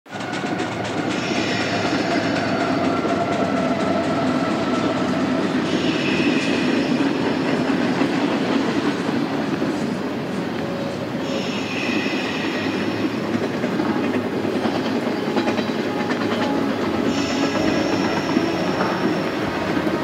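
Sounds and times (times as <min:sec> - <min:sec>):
harsh high train noise: 0:00.1 - 0:20.0
train wheels rumbling on track: 0:00.1 - 0:20.0.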